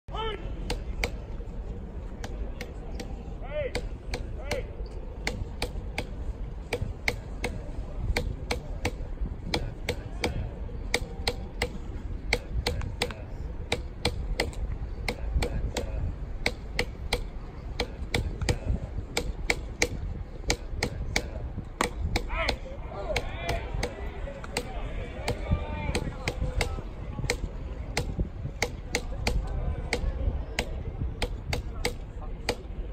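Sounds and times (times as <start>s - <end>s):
low rumble of ballpark crowd: 0.1s - 32.9s.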